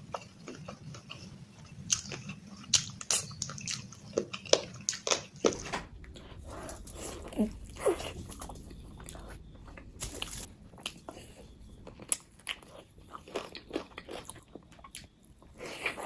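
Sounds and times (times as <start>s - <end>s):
person chewing crispy food: 0.0s - 16.0s.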